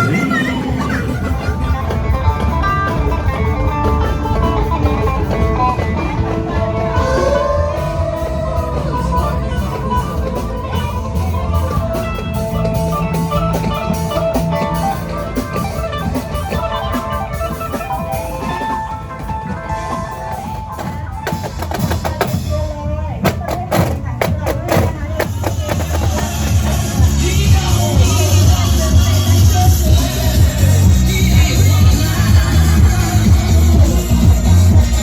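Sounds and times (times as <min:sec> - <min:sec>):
loud guitar music with drums: 0:00.0 - 0:35.0.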